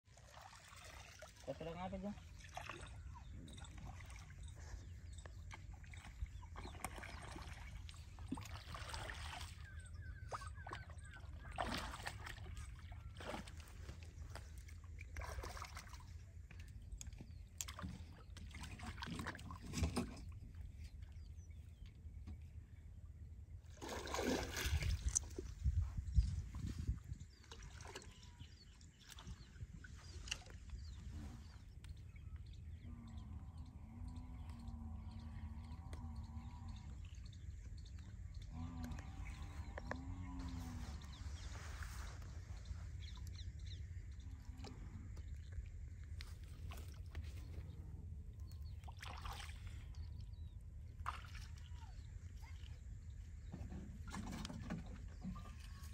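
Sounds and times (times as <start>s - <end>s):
water sloshing and splashing: 0.0s - 55.9s.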